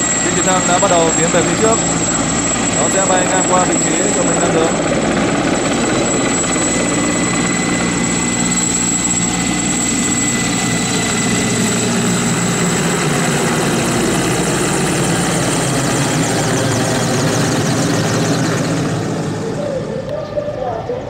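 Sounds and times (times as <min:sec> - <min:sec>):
helicopter engine whine: 0:00.0 - 0:21.0
helicopter rotor drone: 0:00.0 - 0:21.0.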